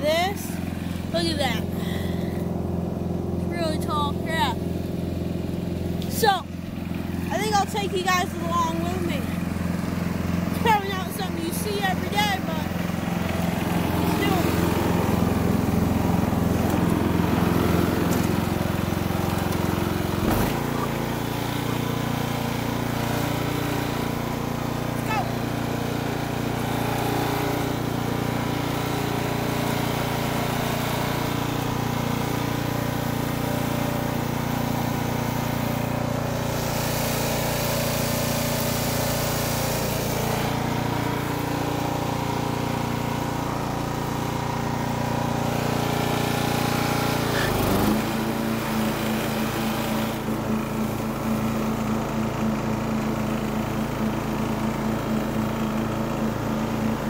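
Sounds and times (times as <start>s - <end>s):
riding lawn mower engine: 0.0s - 57.0s.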